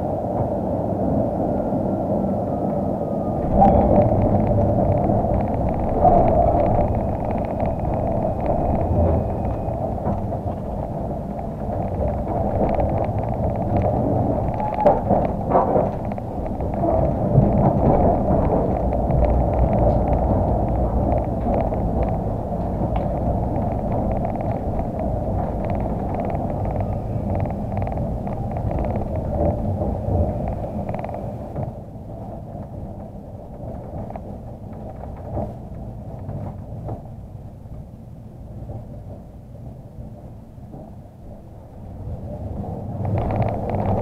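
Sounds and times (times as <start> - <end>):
tram rumbling on rails: 0.0 - 44.0.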